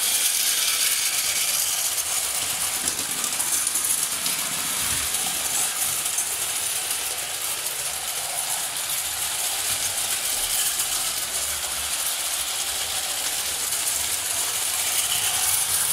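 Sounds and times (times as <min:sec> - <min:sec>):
steam hiss: 0:00.0 - 0:15.9
toy train wheels rattling on rails: 0:00.0 - 0:15.9.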